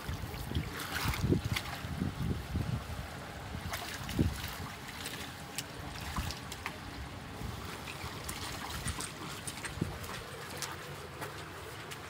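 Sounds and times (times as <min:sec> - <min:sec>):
boot splashing through water: 0:00.0 - 0:02.1, 0:03.6 - 0:12.0
muddy water flowing and sloshing: 0:00.0 - 0:12.0.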